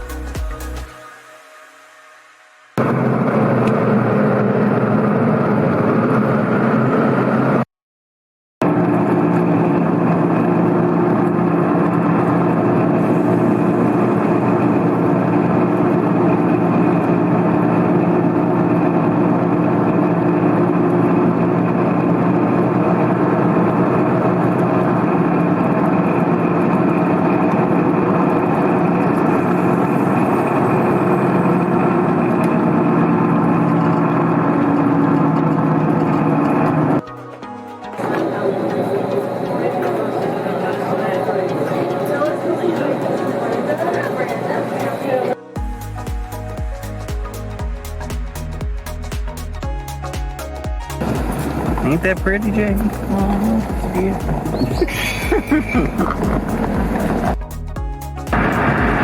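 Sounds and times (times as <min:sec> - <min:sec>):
engine running: 0:02.8 - 0:07.7, 0:08.6 - 0:59.0.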